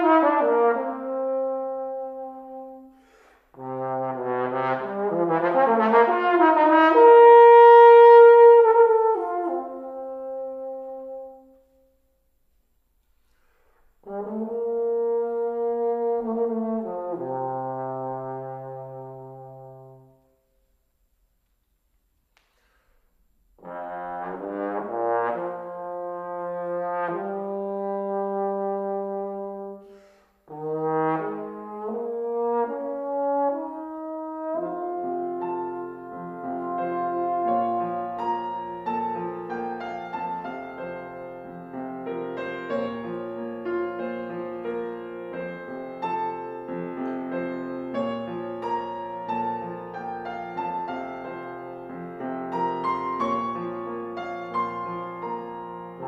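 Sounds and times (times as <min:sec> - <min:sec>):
trombone playing: 0:00.0 - 0:02.9, 0:03.6 - 0:11.8, 0:14.0 - 0:20.3, 0:23.6 - 0:56.0
grand piano: 0:00.0 - 0:56.0.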